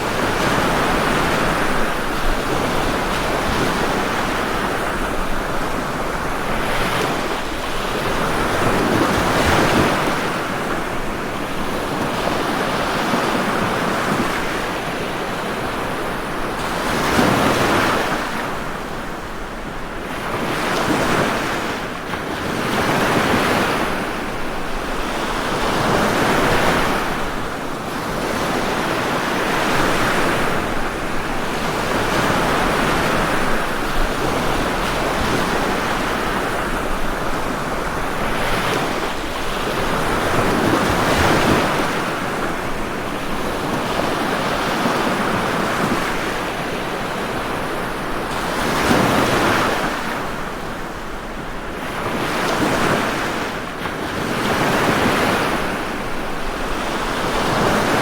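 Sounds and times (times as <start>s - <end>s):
ocean waves surging: 0.0s - 58.0s.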